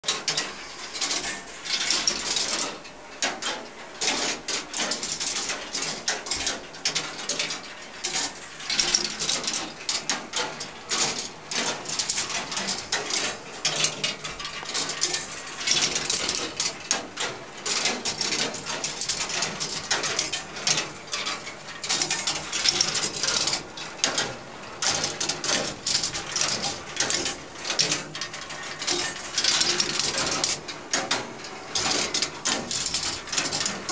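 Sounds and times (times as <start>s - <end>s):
balls clattering through metal tracks: 0.0s - 33.9s.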